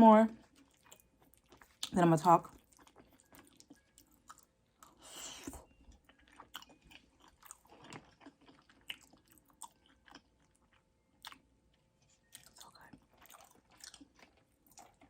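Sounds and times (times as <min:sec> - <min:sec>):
mouth chewing food: 0:00.3 - 0:15.0.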